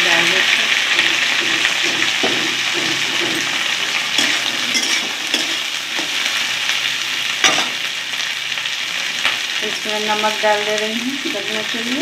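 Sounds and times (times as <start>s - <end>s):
okra sizzling in hot oil: 0.0s - 12.0s.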